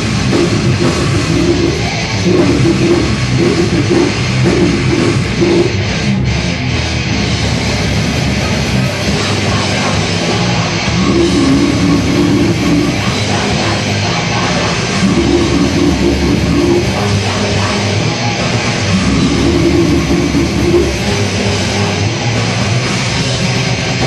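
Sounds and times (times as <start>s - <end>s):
bass guitar: 0.0s - 24.0s
distorted electric guitars: 0.0s - 24.0s
drums: 0.0s - 24.0s.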